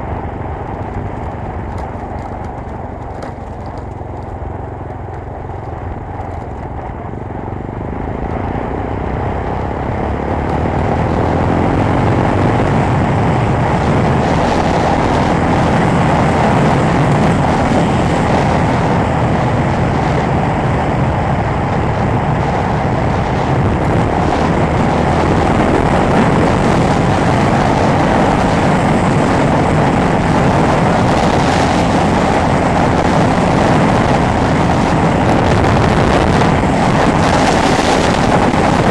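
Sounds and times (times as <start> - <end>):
motorcycle engine running hard: 0.0 - 38.9
rushing wind: 0.0 - 38.9.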